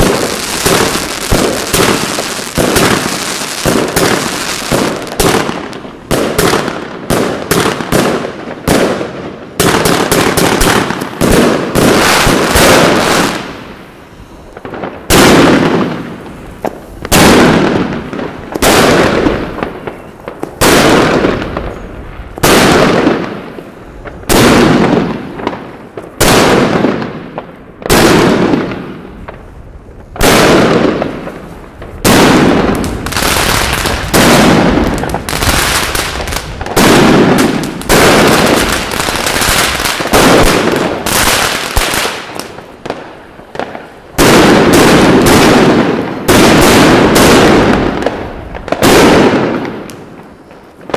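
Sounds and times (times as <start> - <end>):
fireworks cake firing: 0.0 - 50.9.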